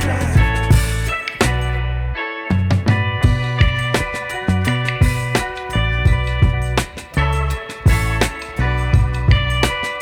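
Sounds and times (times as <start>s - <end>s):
drums bass and guitar music: 0.0s - 1.8s, 2.5s - 10.0s.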